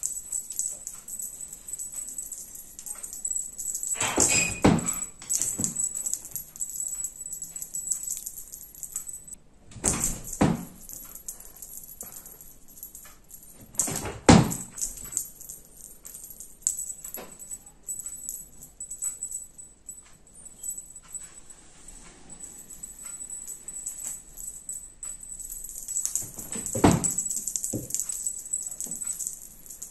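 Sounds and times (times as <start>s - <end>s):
small bell jingling: 0.0s - 29.9s.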